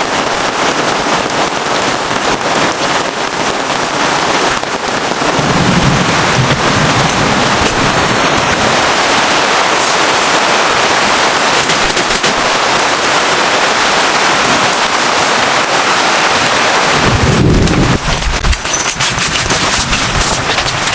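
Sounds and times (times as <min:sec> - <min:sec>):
heavy rain: 0:00.0 - 0:20.9.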